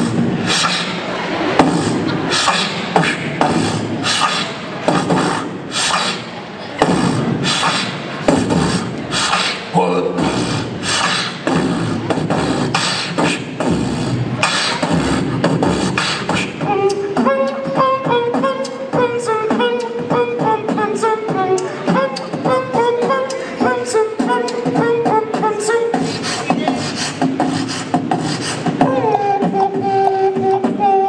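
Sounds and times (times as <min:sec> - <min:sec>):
beatboxing: 0:00.0 - 0:31.0.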